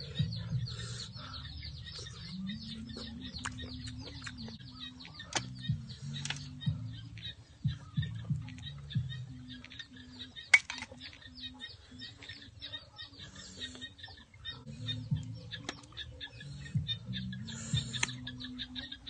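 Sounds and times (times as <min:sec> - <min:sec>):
birds chirping: 0:00.0 - 0:19.0
low bird calls: 0:00.0 - 0:19.0.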